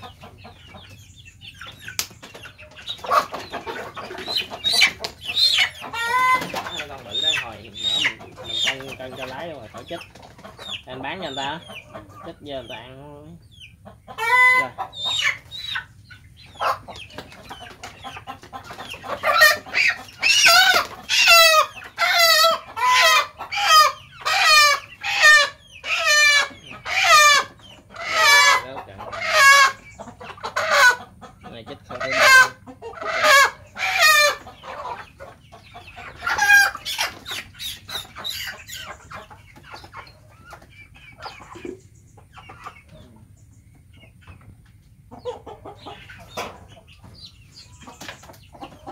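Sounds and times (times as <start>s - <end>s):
chicken squawking: 0.0s - 43.3s, 45.1s - 48.9s.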